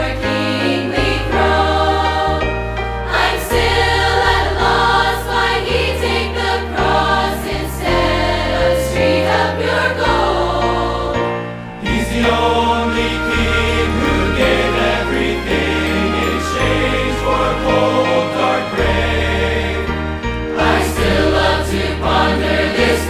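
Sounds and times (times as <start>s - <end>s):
choir singing gospel song: 0.0s - 23.0s
instrumental accompaniment: 0.0s - 23.0s.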